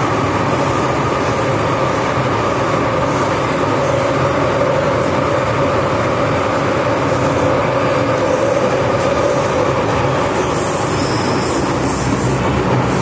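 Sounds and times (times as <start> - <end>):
train rumble: 0.0 - 13.0
train whine: 0.0 - 13.0.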